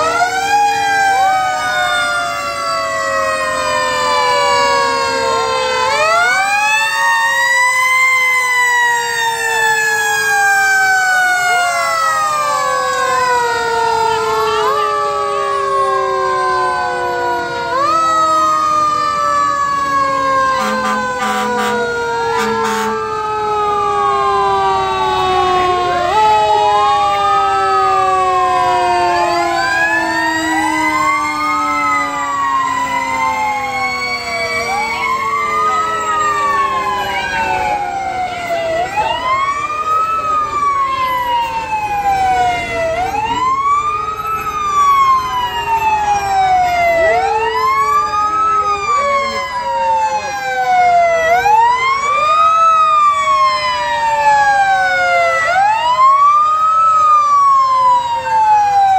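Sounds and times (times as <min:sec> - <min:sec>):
fire truck sirens wailing: 0:00.0 - 0:58.9
slowly falling siren tones: 0:00.0 - 0:58.9.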